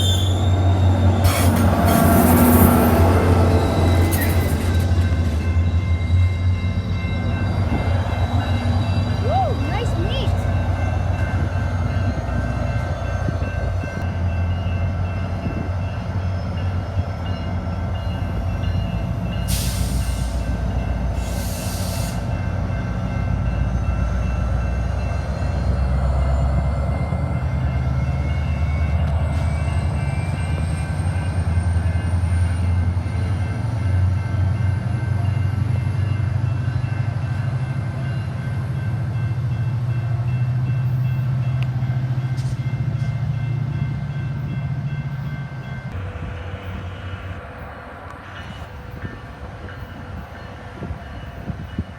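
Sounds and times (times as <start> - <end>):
train rumbling past: 0.0 - 51.9.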